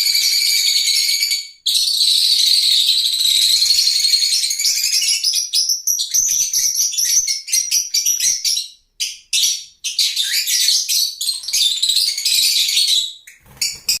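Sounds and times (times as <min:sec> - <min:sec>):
lovebirds chirping: 0:00.0 - 0:14.0.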